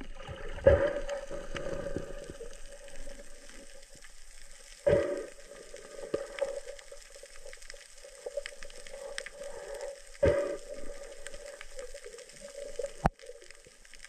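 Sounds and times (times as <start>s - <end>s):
steady low underwater hum: 0.0s - 14.0s
faint clicks: 1.0s - 14.0s.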